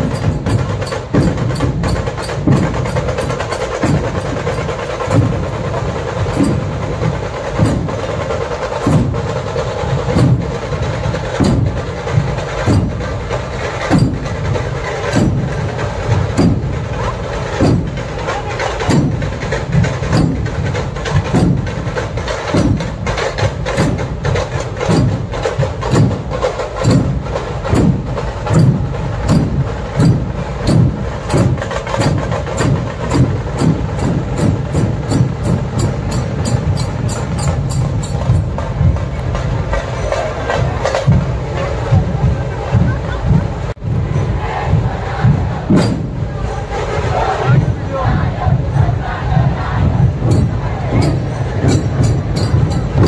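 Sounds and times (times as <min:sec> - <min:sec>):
deep drum strokes: 0:00.0 - 0:53.0
sharp quick drum beats: 0:00.0 - 0:53.0.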